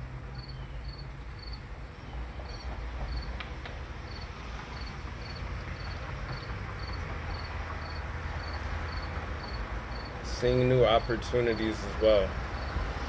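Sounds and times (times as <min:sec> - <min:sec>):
crickets chirping: 0:00.4 - 0:13.0.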